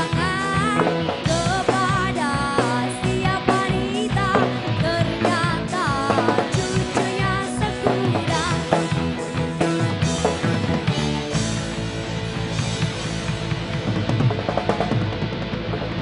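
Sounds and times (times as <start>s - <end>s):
bass guitar: 0.0s - 16.0s
drum kit: 0.0s - 16.0s
electric guitar: 0.0s - 16.0s.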